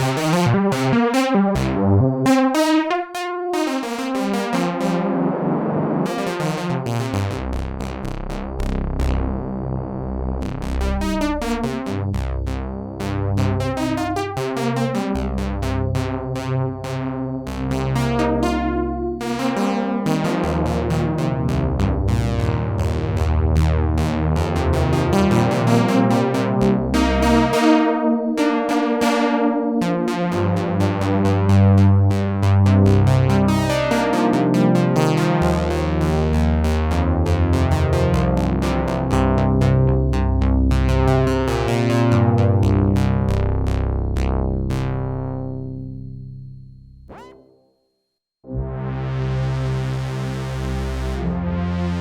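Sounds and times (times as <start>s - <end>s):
synthesizer chords: 0.0s - 46.4s, 48.5s - 52.0s.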